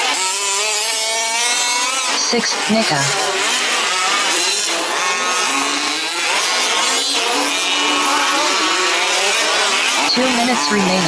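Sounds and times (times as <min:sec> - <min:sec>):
small two-stroke engines revving: 0:00.0 - 0:11.0.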